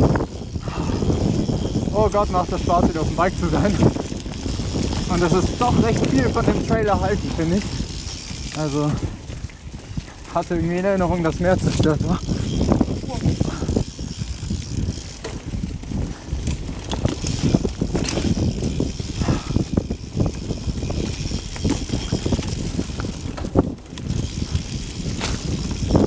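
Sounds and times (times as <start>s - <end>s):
bike chain and frame rattling: 0.0s - 26.0s
bike tyres on dirt: 0.0s - 26.0s
wind buffeting microphone: 0.0s - 26.0s.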